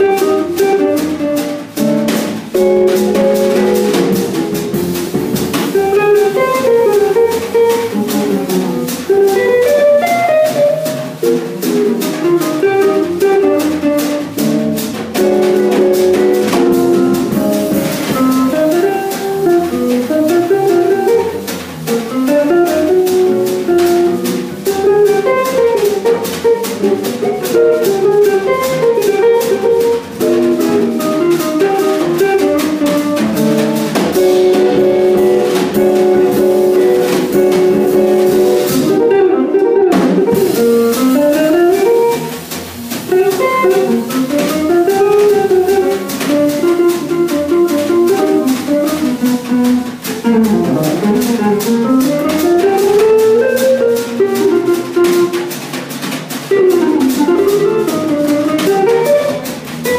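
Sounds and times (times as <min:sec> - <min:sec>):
drum kit cymbals: 0:00.0 - 0:59.9
electric jazz guitar: 0:00.0 - 0:59.9
plucked upright double bass: 0:00.0 - 0:59.9.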